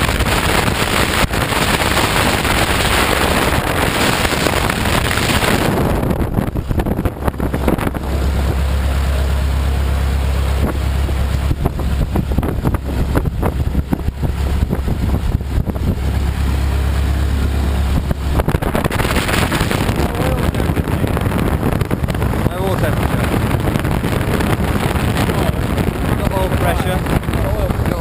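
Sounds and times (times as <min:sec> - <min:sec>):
aircraft engine droning: 0:00.0 - 0:28.0
wind buffeting microphone: 0:00.0 - 0:28.0.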